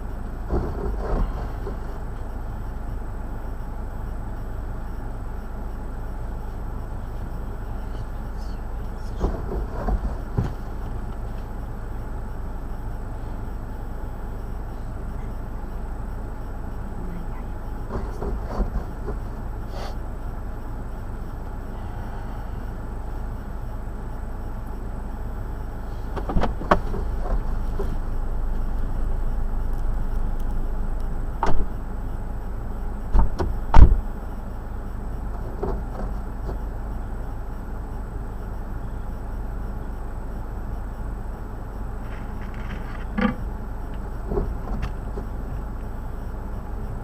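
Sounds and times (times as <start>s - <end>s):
motor vehicle rumbling: 0.0s - 47.0s.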